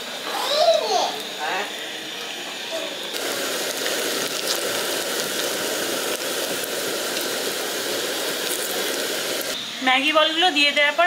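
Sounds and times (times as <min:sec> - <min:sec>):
oil sizzling and crackling: 0:00.0 - 0:10.7.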